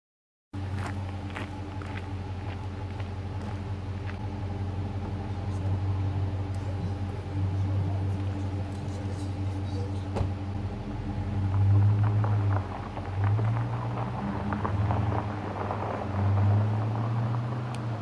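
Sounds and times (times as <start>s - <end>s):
car engine accelerating: 0.6s - 18.0s
gravel crackling under tyres: 0.6s - 18.0s.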